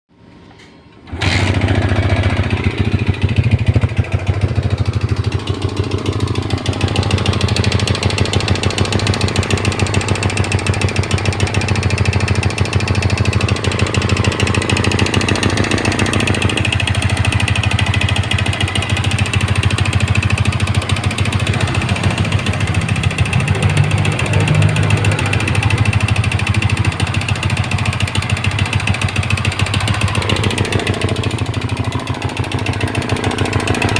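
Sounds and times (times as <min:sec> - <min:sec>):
motorcycle engine idling: 0:01.4 - 0:33.9.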